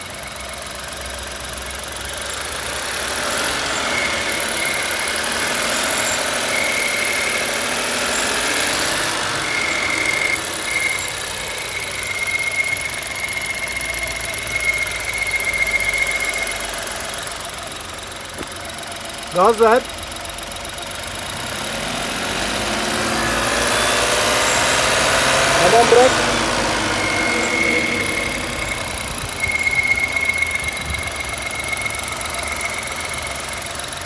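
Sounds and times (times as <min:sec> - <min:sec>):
car engine running: 0:00.0 - 0:34.0
high-pitched engine whistle: 0:00.0 - 0:34.0.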